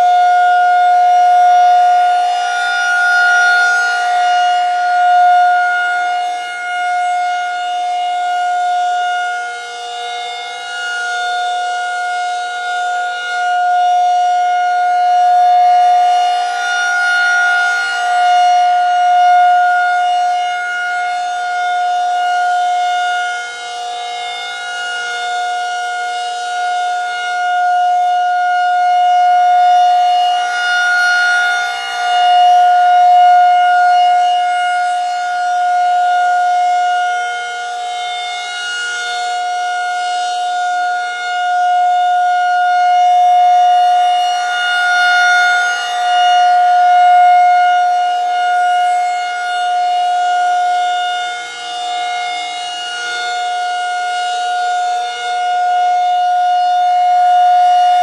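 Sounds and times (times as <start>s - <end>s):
rotating siren steady tone: 0.0s - 58.0s.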